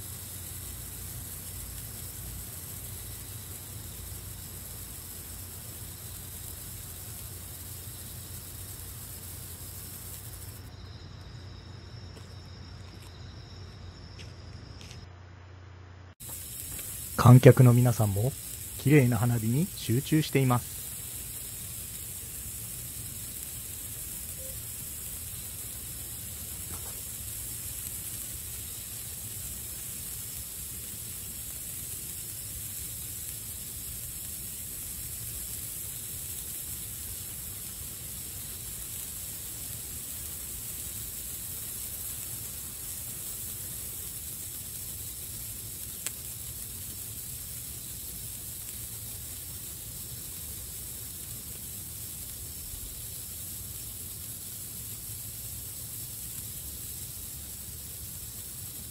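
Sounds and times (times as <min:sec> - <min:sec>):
fountain fireworks hissing: 0:00.0 - 0:15.0, 0:16.2 - 0:58.9.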